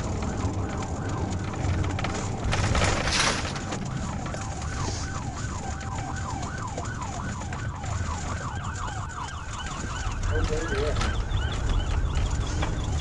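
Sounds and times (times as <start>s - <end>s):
engine and road rumble: 0.0s - 13.0s
police siren yelping: 0.0s - 13.0s.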